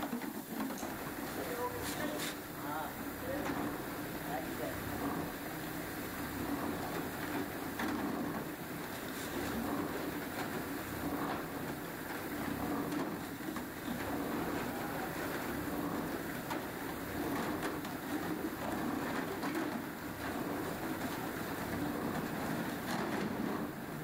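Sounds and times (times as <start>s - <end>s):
workshop machinery humming: 0.0s - 24.0s.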